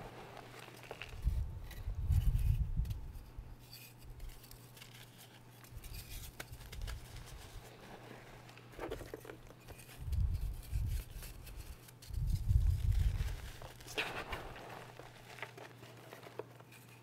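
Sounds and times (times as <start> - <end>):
dry crackling of chalk: 0.0 - 17.0.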